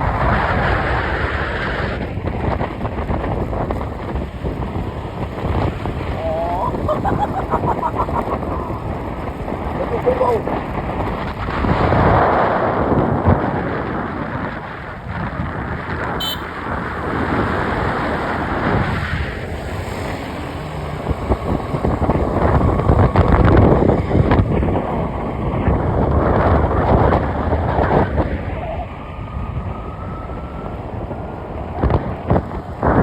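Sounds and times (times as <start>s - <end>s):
vehicle road and engine noise: 0.0s - 33.0s
wind buffeting microphone: 0.0s - 33.0s.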